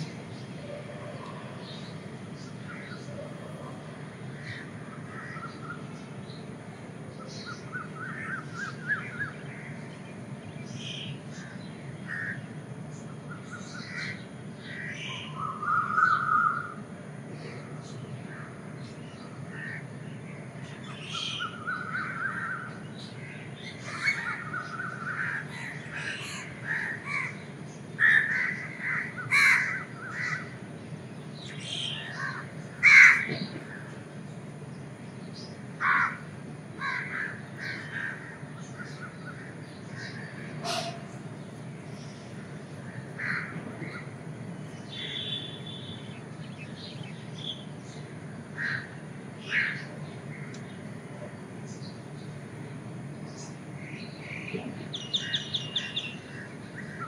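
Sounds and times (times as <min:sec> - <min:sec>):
birds calling: 0:00.0 - 0:57.0
low background hum: 0:00.0 - 0:57.0.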